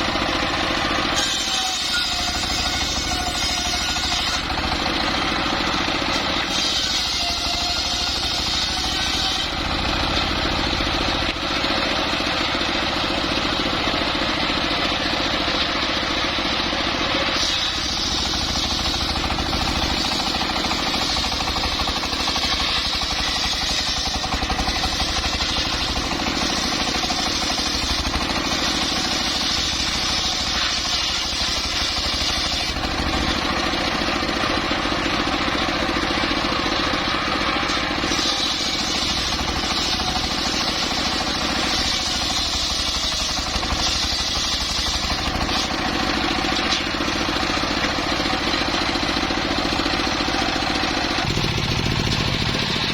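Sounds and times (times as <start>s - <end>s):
saw blade cutting timber: 0.0s - 52.9s
saw rig engine running: 0.0s - 52.9s.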